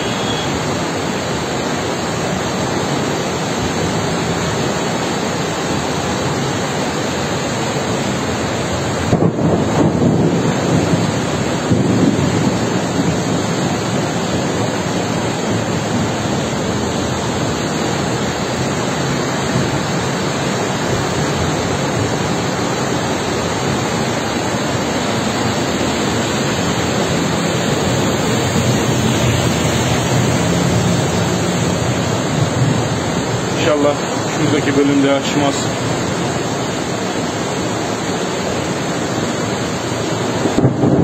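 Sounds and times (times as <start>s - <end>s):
floodwater rushing: 0.0s - 41.0s.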